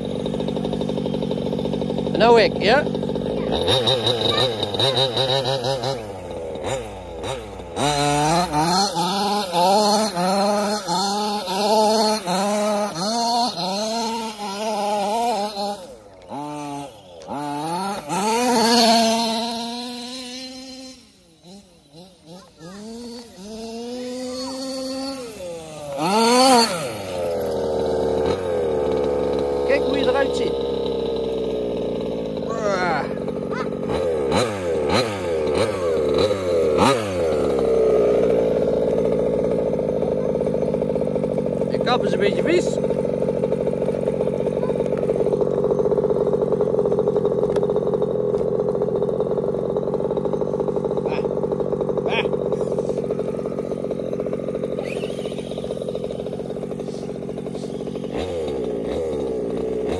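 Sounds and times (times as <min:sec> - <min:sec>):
two-stroke engine revving and idling: 0:00.0 - 0:59.9.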